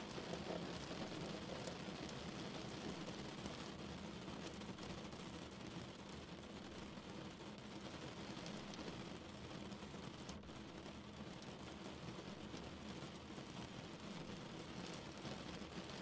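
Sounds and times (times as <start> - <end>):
steady rain pattering: 0.0 - 16.0.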